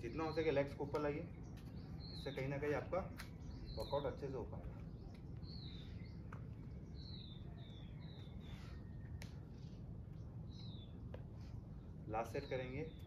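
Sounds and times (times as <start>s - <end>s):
birds chirping: 0.0s - 13.0s
faint low outdoor rumble: 0.0s - 13.0s.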